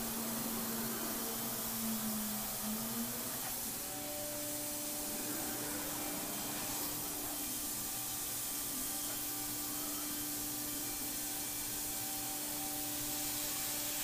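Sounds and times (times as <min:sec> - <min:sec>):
compressed air hissing: 0:00.0 - 0:14.0
machine hum: 0:00.0 - 0:14.0.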